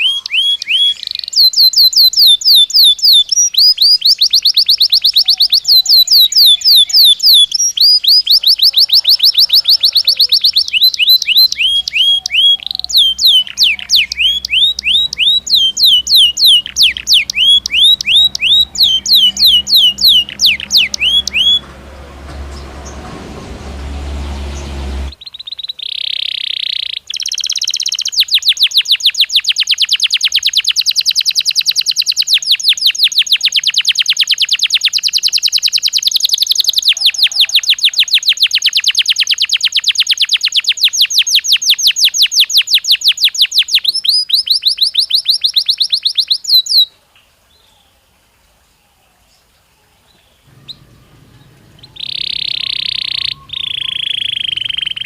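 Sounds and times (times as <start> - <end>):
canary singing trill: 0.0 - 46.9, 50.2 - 55.0.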